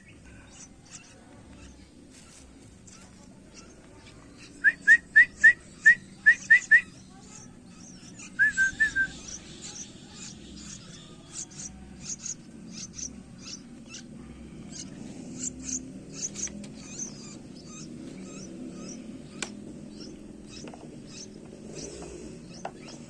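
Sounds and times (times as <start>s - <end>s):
bird chick chirping: 0.0s - 14.1s, 14.7s - 23.0s.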